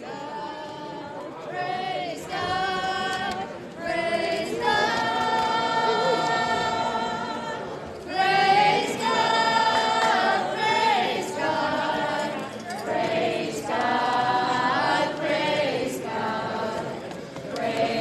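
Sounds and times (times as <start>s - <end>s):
group singing without instruments: 0.0s - 18.0s.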